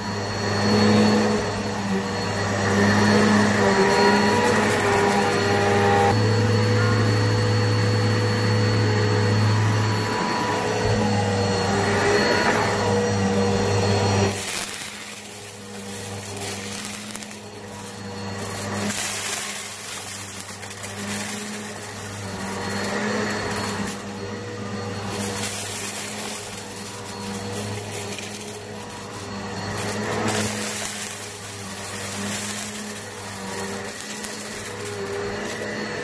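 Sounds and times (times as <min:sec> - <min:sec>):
vacuum cleaner running on carpet: 0:00.0 - 0:36.0
debris crackling in vacuum: 0:01.4 - 0:06.2, 0:08.8 - 0:36.0.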